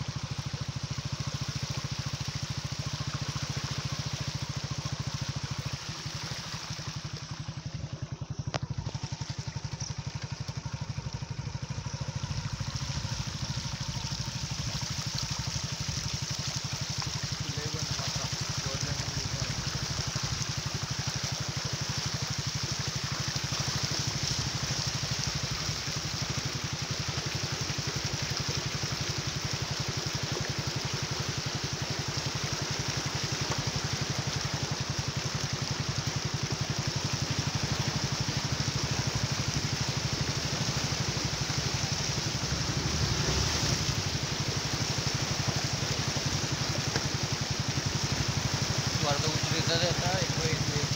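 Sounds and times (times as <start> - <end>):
vehicle engine running: 0.0 - 50.9
water rushing: 0.0 - 50.9
wind: 0.0 - 50.9.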